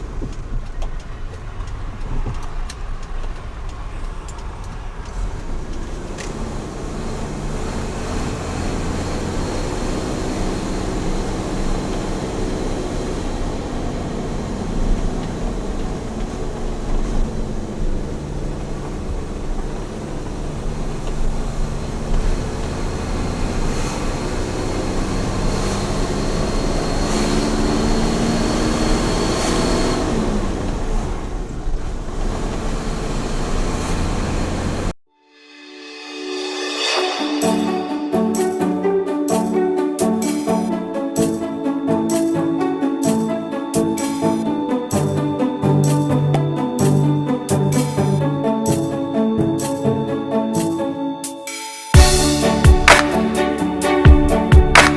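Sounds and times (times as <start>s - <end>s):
road noise rumble: 0.0s - 35.0s, 39.4s - 51.1s, 52.0s - 54.9s
truck engine running: 0.0s - 35.0s, 39.3s - 51.0s, 52.0s - 54.9s.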